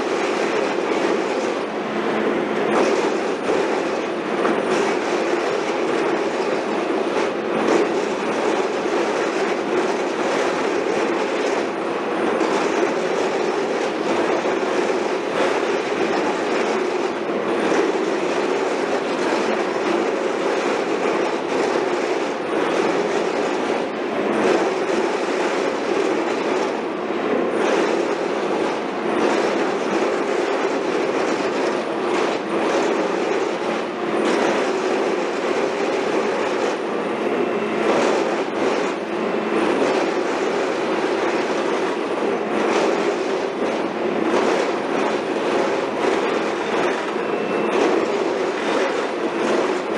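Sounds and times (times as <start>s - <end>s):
heavy machinery running: 0.0s - 49.9s.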